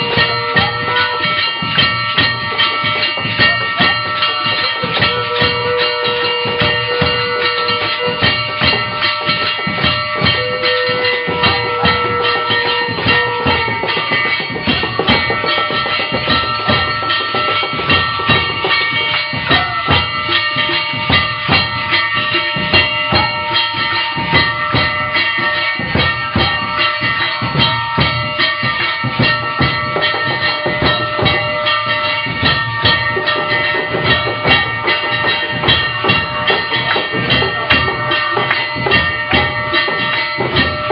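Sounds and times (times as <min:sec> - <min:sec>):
fast dense drumming: 0:00.0 - 0:40.9
steady held notes: 0:00.0 - 0:40.9.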